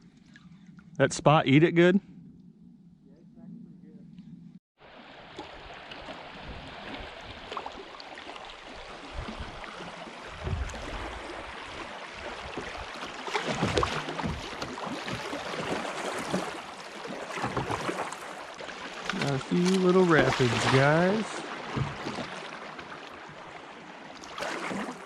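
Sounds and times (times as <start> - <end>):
low thumps and splashes: 4.8 - 25.0
rushing river water: 4.8 - 25.0.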